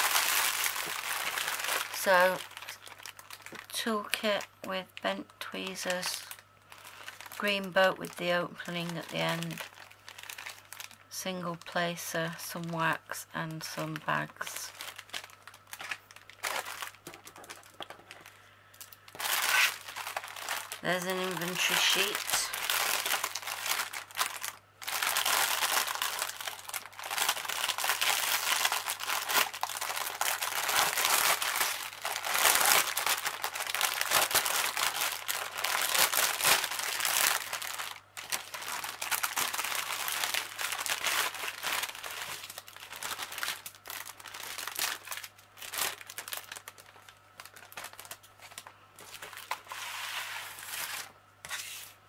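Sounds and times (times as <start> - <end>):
plastic packets shuffled: 0.0 - 4.4, 5.6 - 11.0, 13.6 - 51.9
plastic bags crinkling: 0.0 - 12.5, 13.6 - 51.1.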